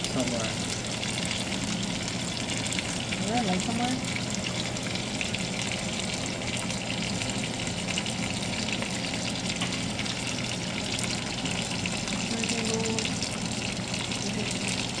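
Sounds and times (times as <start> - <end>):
steak sizzling in a pan: 0.0 - 15.0.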